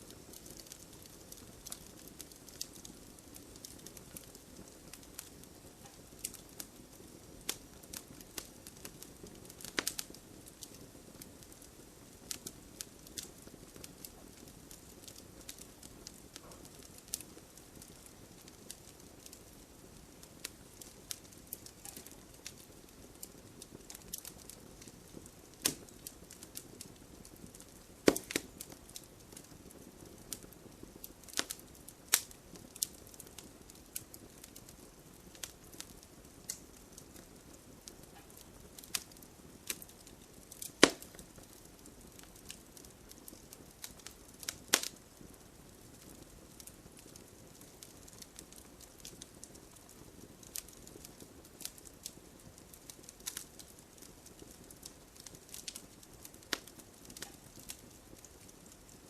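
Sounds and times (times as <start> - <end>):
burning logs popping: 0.0 - 59.0
campfire crackling and hissing: 0.0 - 59.0.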